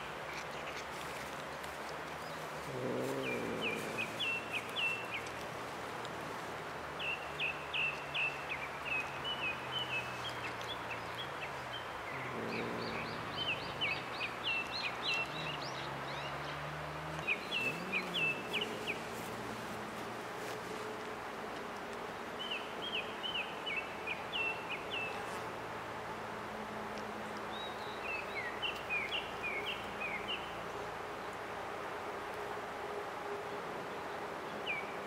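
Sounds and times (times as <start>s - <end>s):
songbird chirping: 0.0s - 21.2s, 21.8s - 25.6s, 26.9s - 31.5s
low outdoor hum: 0.0s - 35.0s.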